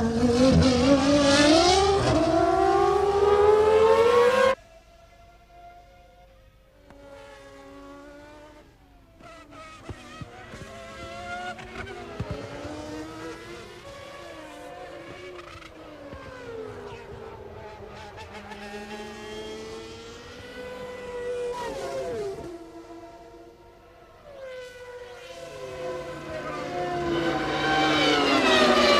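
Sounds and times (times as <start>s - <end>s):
racing car engines at high revs: 0.0s - 4.6s, 6.8s - 28.9s.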